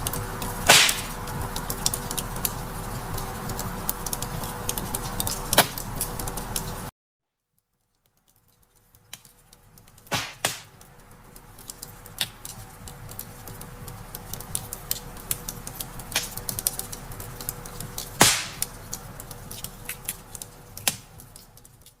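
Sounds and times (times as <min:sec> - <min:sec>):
fire pops and snaps: 0:00.0 - 0:06.8, 0:08.2 - 0:22.0
low rumble of flames: 0:00.0 - 0:06.9, 0:08.4 - 0:22.0.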